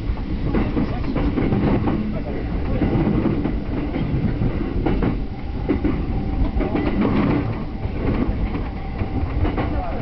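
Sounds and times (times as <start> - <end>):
train low rumble: 0.0 - 10.0
wheels clicking over rail joints: 0.2 - 10.0.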